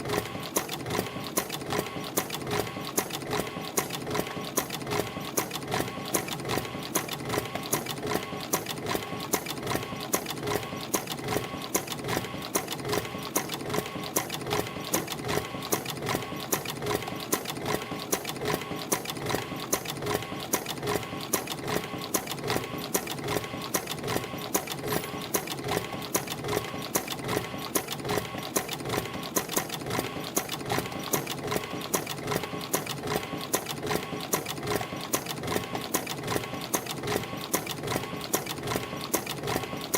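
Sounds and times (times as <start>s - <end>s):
sharp rhythmic clicks: 0.0s - 39.9s
spring machine whirring: 0.0s - 39.9s.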